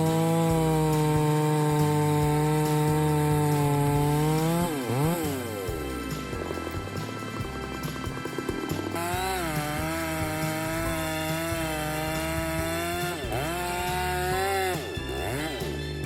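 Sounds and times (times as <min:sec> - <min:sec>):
background music: 0:00.0 - 0:16.0
chainsaw running at high revs: 0:00.0 - 0:16.0.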